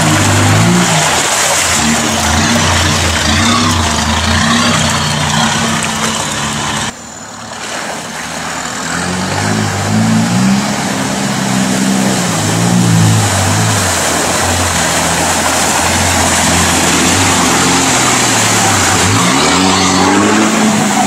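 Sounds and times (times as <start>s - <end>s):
off-road engine in mud: 0.0s - 21.0s
suv engine revving: 0.0s - 21.0s.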